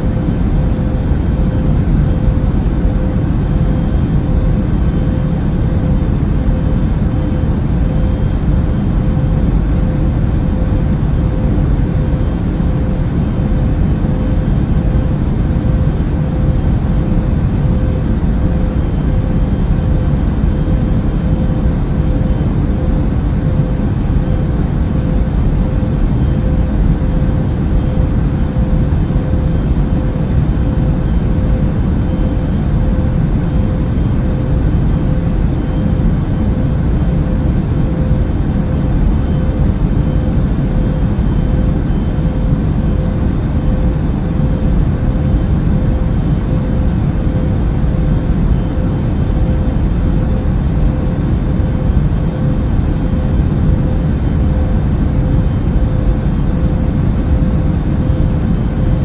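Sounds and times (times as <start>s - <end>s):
faint steady hum: 0.0s - 59.0s
jet airliner cabin rumble: 0.0s - 59.0s.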